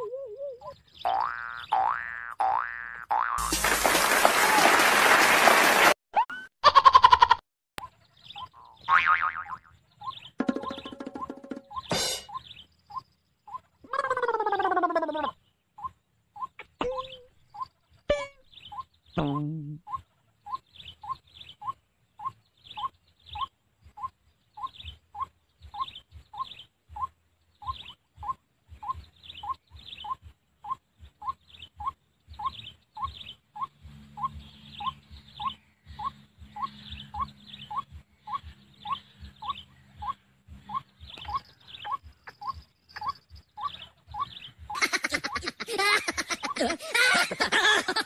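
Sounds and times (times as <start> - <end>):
waterhen calling: 7.8 - 47.3.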